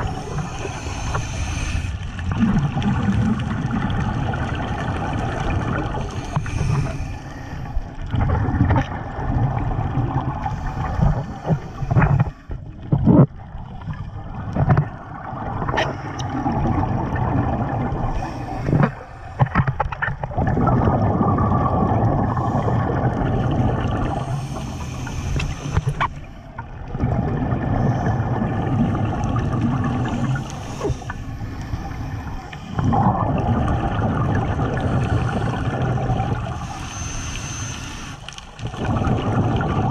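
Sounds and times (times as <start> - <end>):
exhaled bubbles underwater: 0.0 - 39.9.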